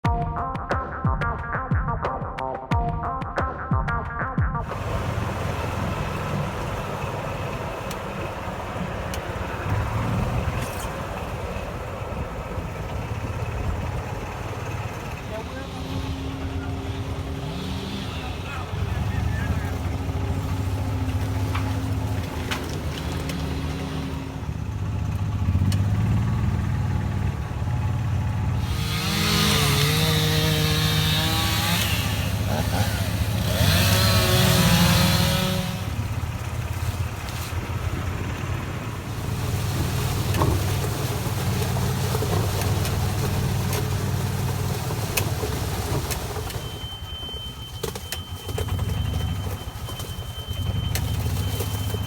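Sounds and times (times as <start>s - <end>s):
engine running: 4.6s - 52.0s.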